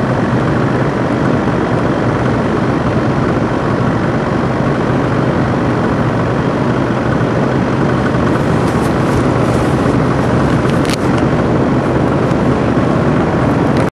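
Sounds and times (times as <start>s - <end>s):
small aircraft engine drone: 0.0s - 13.9s
wind on microphone: 0.0s - 13.9s.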